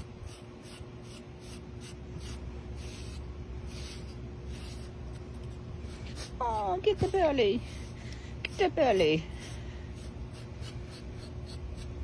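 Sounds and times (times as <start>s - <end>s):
brush raking through dog fur: 0.0s - 12.0s.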